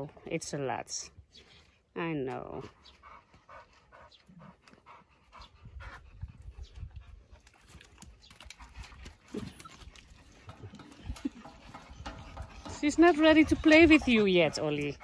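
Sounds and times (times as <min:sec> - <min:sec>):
dog panting: 0:02.6 - 0:15.0.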